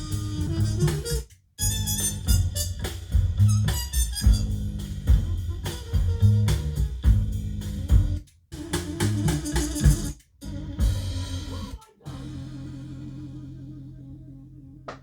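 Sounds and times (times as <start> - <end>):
band music with steady beat: 0.0 - 12.9.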